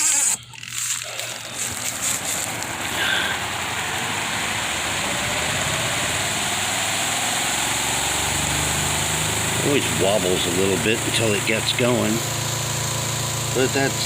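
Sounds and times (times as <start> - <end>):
faint rising whine: 0.0 - 14.0
spin-dryer motor whirring: 0.0 - 14.0.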